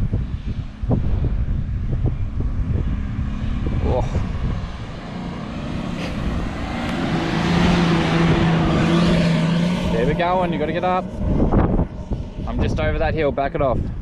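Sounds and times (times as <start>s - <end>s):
off-road vehicle engine climbing: 0.0s - 14.0s
wind rumble on microphone: 0.0s - 14.0s.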